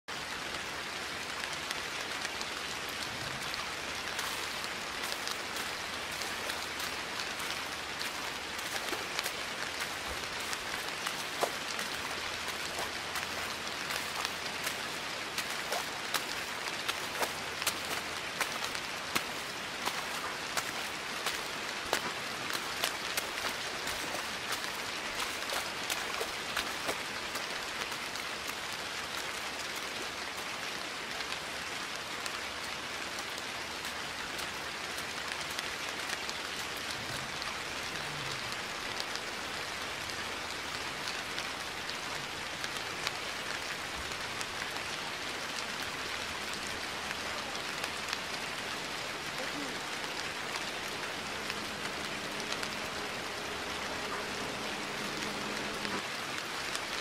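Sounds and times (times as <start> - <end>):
rain on wet paving: 0.1 - 57.0.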